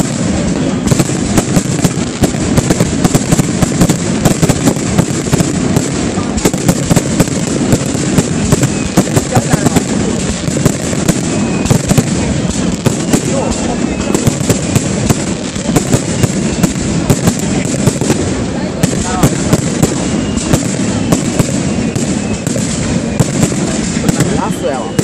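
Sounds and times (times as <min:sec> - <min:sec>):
firework bangs and crackles: 0:00.0 - 0:25.0.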